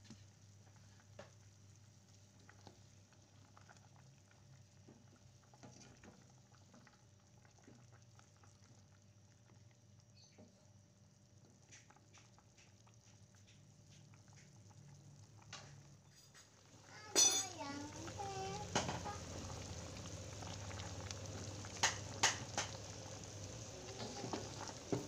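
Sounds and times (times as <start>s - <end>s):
broth simmering with small pops: 0.0s - 25.0s.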